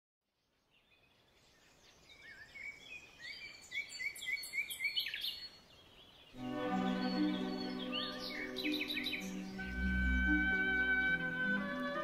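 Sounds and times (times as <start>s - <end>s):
birds singing chirping phrases: 0.3s - 12.0s.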